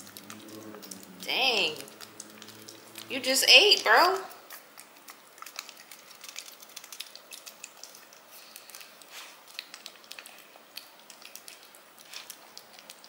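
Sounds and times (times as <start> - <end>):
cat tongue licking wet clicks: 0.0 - 13.0.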